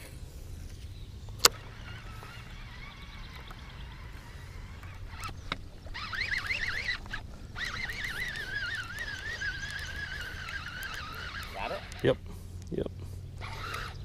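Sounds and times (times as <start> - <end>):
fishing reel whining: 1.2 - 12.2, 13.3 - 14.0
sharp reel clicks: 1.3 - 12.7, 13.4 - 14.0.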